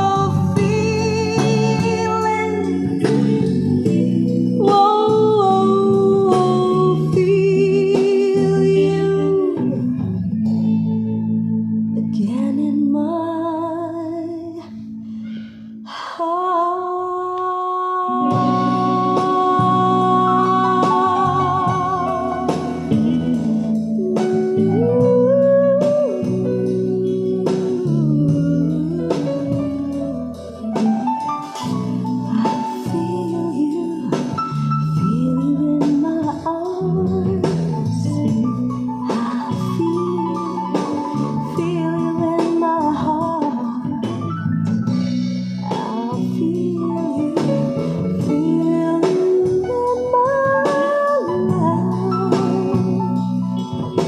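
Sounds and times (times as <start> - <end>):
wavering lead melody: 0.0 - 15.9, 17.0 - 54.0
slow song with guitar and bass: 0.0 - 54.0.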